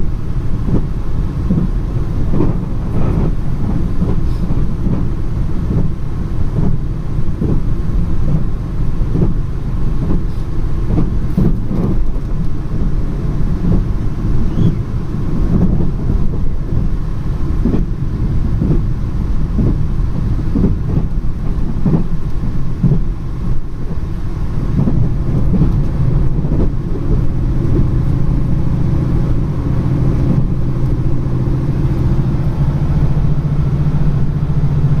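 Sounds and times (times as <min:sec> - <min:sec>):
steady low drone: 0:00.0 - 0:35.0
train rumble: 0:00.0 - 0:35.0
wheels knocking on track: 0:00.6 - 0:06.8, 0:07.4 - 0:17.0, 0:17.6 - 0:24.0, 0:24.7 - 0:35.0.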